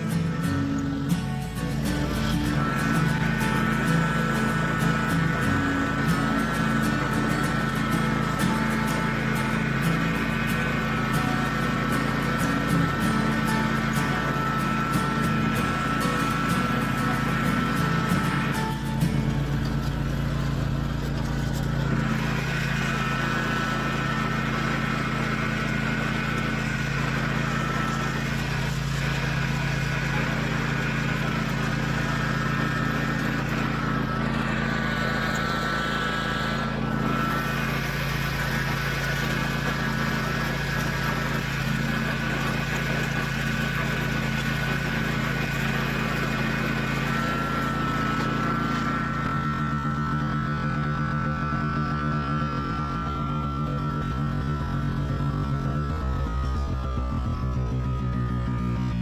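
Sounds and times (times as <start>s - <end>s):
high whine: 0.0s - 59.0s
lawn tractor engine running: 0.0s - 59.0s.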